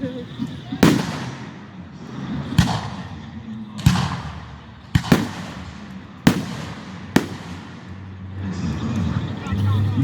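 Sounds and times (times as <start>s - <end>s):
fireworks bursting with rumble: 0.2s - 9.2s.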